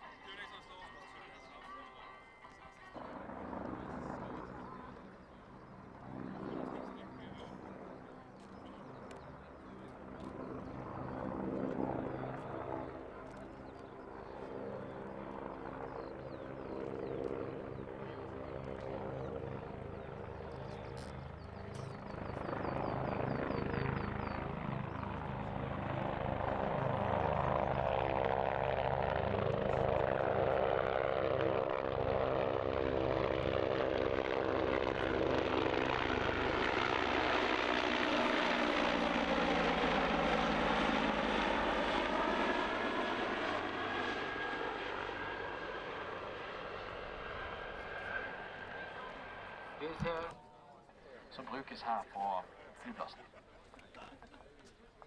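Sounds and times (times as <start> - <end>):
propeller aircraft engine droning: 0.0 - 55.0.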